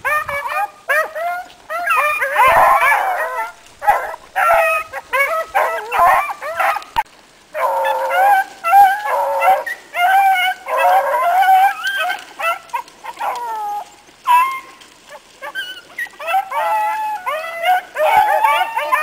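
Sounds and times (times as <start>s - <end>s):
hounds baying: 0.0s - 19.0s.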